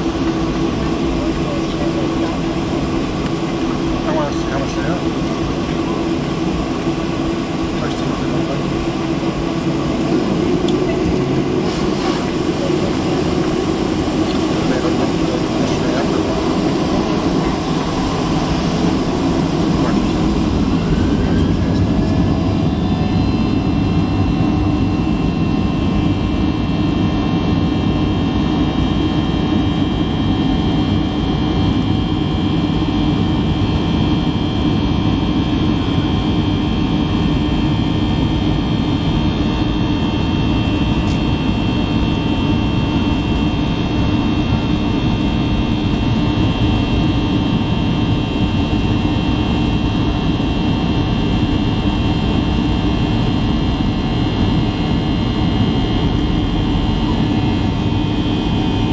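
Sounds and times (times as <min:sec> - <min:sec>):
jet engines roaring at takeoff: 0:00.0 - 0:58.9.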